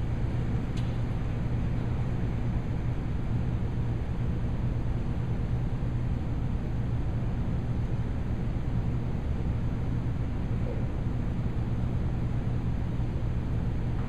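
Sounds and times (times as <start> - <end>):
low hum and rumble: 0.0 - 14.0.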